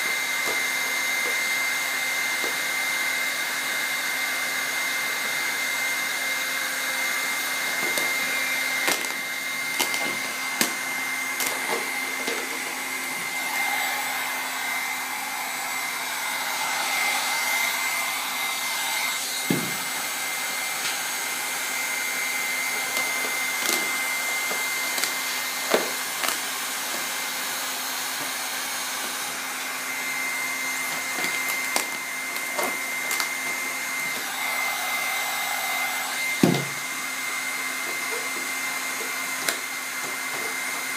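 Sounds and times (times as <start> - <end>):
heat gun blowing: 0.0 - 40.9.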